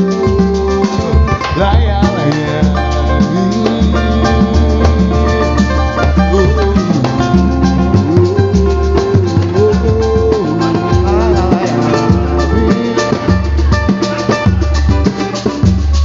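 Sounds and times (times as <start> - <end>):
percussion beat with deep bass: 0.0 - 16.0
plucked strings: 0.0 - 16.0.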